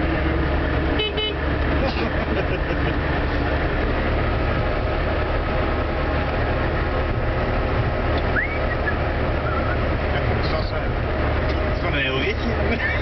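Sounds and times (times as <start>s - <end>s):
car engine drone from cabin: 0.0s - 13.0s.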